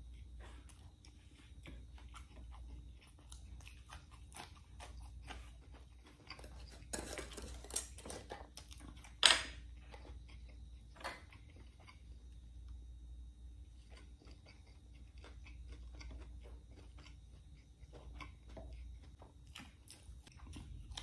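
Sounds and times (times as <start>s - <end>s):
man chewing and mouth sounds: 0.0s - 21.0s.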